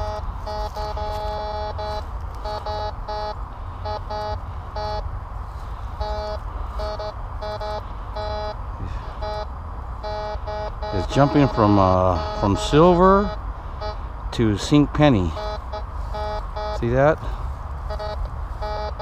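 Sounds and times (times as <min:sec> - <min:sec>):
metal detector beeping: 0:00.0 - 0:19.0
steady low rumble: 0:00.0 - 0:19.0.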